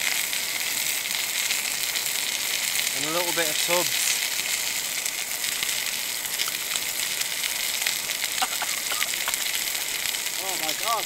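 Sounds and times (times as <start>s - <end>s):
steak sizzling in frying pan: 0.0s - 11.0s.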